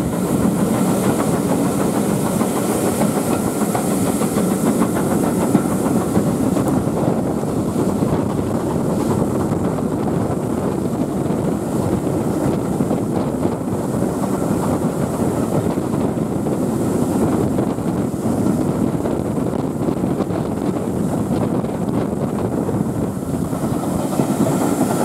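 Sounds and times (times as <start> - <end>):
train carriage rumbling on rails: 0.0 - 25.0
wind buffeting microphone: 0.0 - 25.0.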